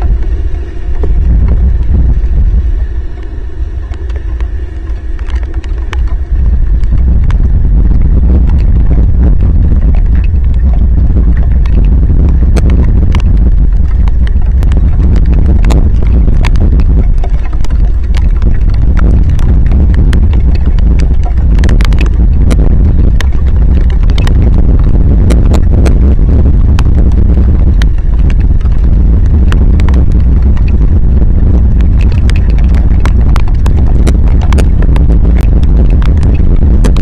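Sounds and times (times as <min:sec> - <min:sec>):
heavy rain hitting microphone: 0:00.0 - 0:37.0.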